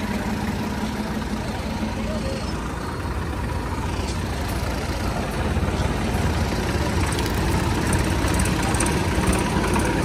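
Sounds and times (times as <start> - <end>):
tractor engines idling: 0.0 - 10.0.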